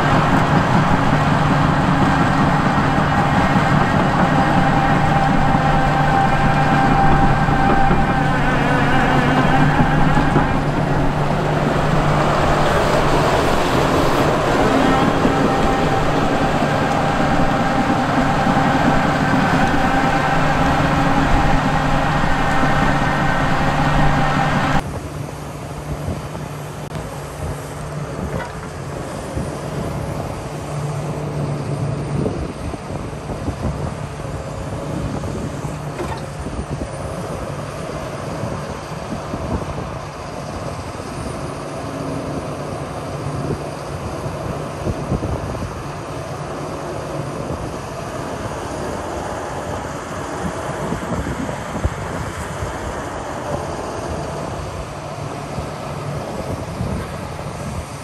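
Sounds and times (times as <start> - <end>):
excavator diesel engine running: 0.0 - 58.0
high-pitched engine whine: 0.0 - 58.0.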